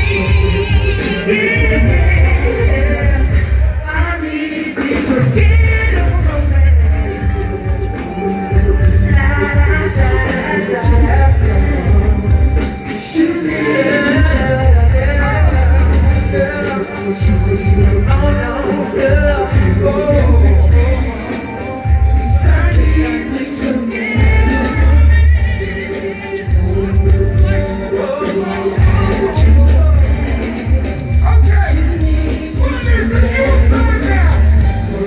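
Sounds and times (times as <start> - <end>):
heavy pulsing bass beat: 0.0 - 4.1, 5.0 - 12.9, 13.5 - 35.0
pop music with singing: 0.0 - 35.0.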